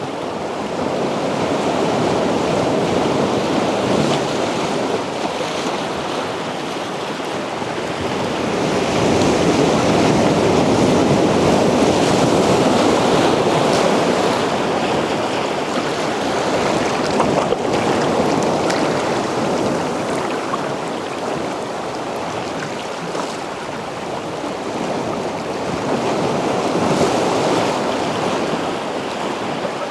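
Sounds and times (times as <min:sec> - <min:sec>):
sea waves breaking on beach: 0:00.0 - 0:29.9.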